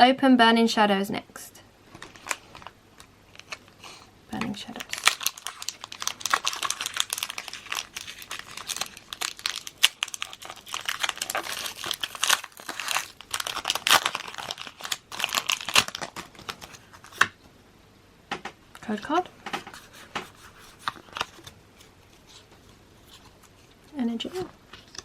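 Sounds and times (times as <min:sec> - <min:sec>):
foil wrapper crinkling: 0:01.9 - 0:17.3, 0:19.7 - 0:25.0.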